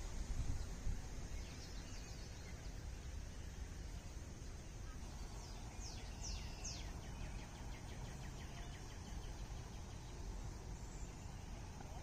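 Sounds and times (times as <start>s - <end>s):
low outdoor rumble: 0.0s - 12.0s
songbird singing: 0.0s - 12.0s.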